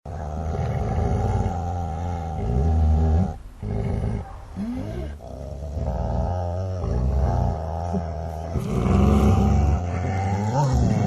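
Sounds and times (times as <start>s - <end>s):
dogs growling and snarling: 0.1s - 11.0s.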